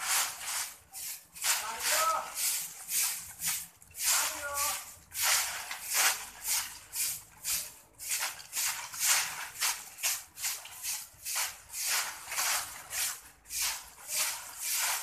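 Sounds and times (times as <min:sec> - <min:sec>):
broom sweeping concrete floor: 0:00.0 - 0:15.0.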